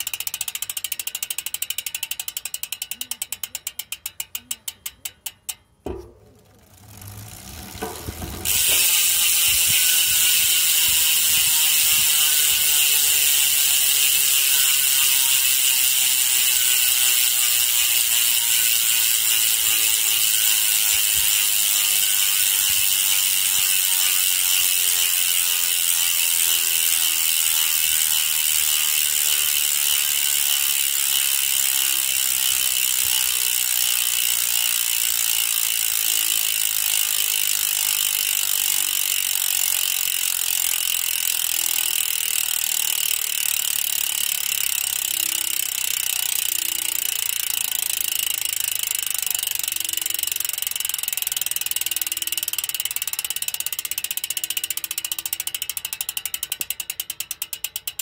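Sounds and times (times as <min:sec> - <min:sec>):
single hub clicks: 0:00.0 - 0:35.9, 0:36.5 - 0:58.0
bicycle hub ratchet buzzing: 0:00.0 - 0:58.0.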